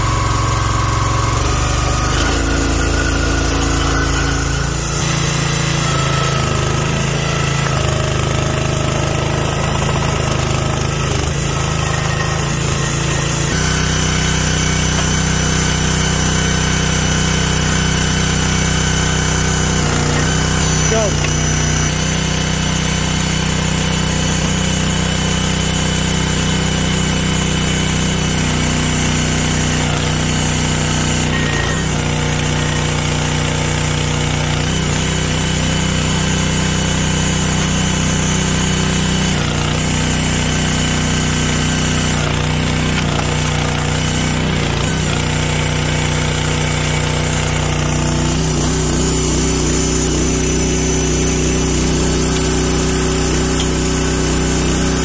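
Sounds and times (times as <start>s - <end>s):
log splitter engine running: 0.0s - 55.0s.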